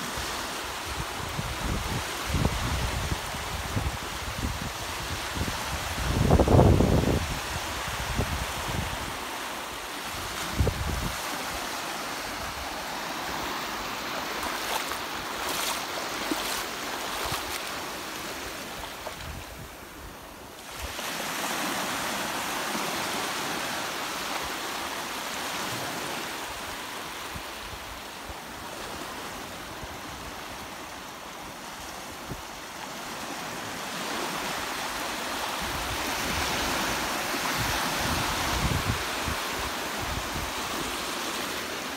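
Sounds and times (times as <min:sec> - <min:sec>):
small waves breaking on sand: 0:00.0 - 0:41.9.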